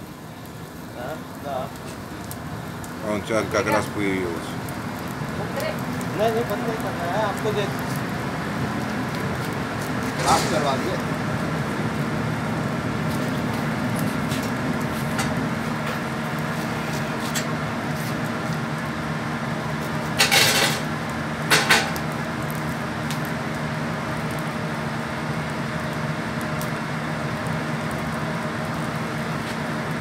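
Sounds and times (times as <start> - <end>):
fire crackling: 0.0 - 30.0
steady machine hum: 0.0 - 30.0.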